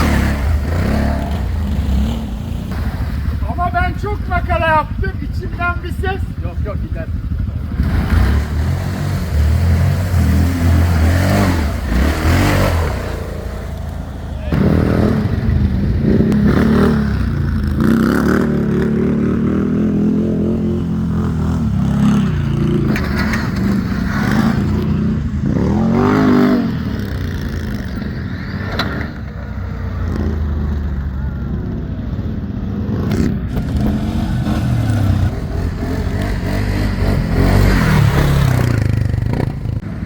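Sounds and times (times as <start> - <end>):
atv engine revving: 0.0 - 31.8, 32.7 - 40.0.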